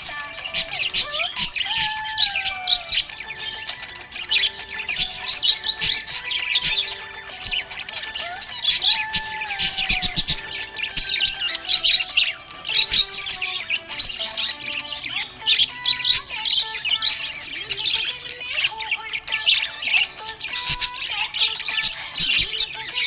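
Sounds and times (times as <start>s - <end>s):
budgerigars chirping and chattering: 0.0s - 23.0s.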